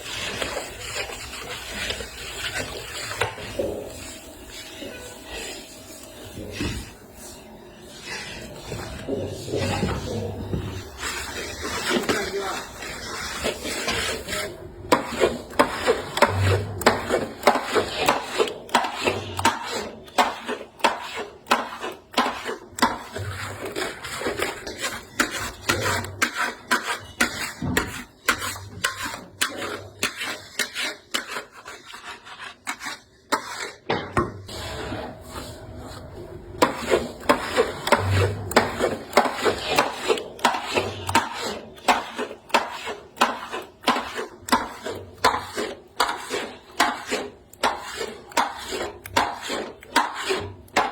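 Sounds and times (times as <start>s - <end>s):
spatula scraping a pan: 0.0s - 50.9s.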